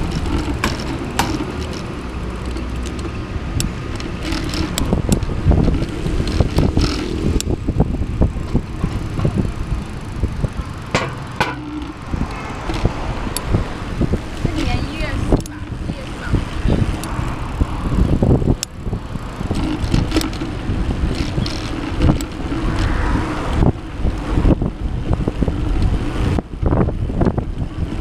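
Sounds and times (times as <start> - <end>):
bicycle knocks and rattles: 0.0 - 28.0
bicycle rolling on concrete: 0.0 - 28.0
cars passing on road: 0.0 - 28.0.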